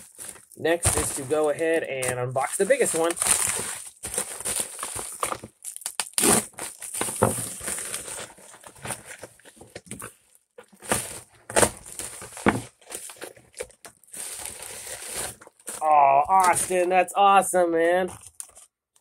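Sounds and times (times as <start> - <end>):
plastic bag crinkling: 0.0 - 16.9.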